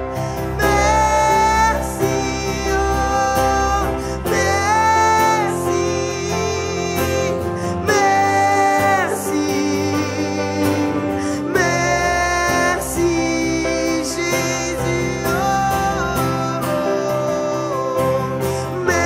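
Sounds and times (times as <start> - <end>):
acoustic guitar: 0.0 - 19.0
electric keyboard: 0.0 - 19.0.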